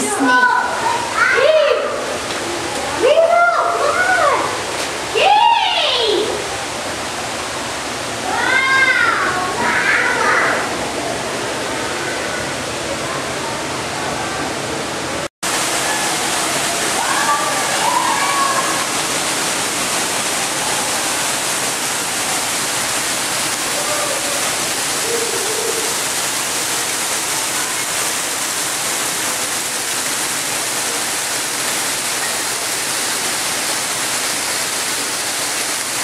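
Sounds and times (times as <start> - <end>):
waterfall splashing into pool: 0.0 - 14.5, 15.2 - 36.0.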